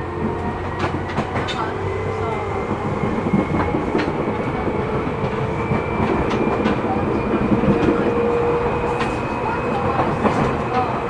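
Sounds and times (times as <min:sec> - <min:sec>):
rail-joint clicks: 0:00.0 - 0:11.0
wheels rumbling on rail: 0:00.0 - 0:11.0.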